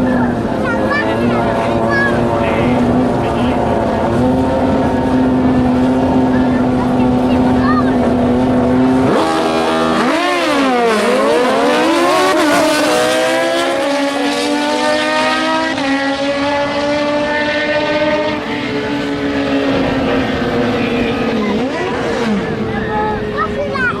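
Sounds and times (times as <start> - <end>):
motorcycle engine at full throttle: 0.0 - 24.0.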